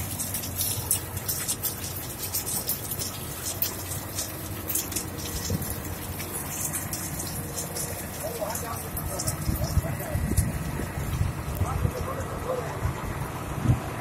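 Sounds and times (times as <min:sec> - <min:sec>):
drilling rig running: 0:00.0 - 0:13.6
water rushing and gushing: 0:00.0 - 0:14.0.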